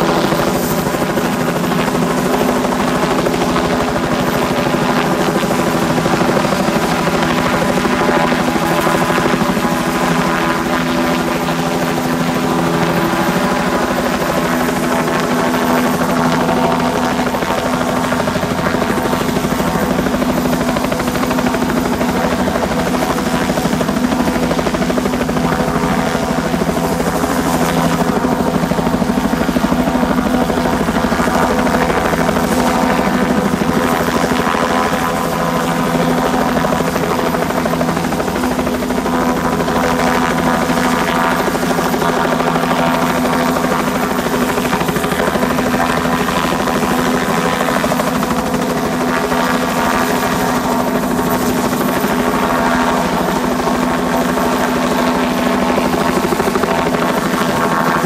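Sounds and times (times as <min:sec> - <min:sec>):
helicopter hovering overhead: 0:00.0 - 0:58.0.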